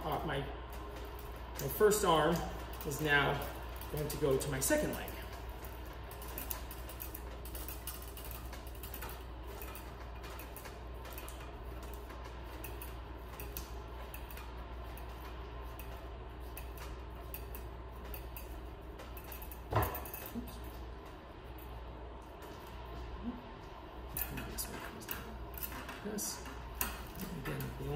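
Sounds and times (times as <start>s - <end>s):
steady low hum: 0.0s - 27.9s
wire strands creaking and ticking: 0.0s - 27.9s.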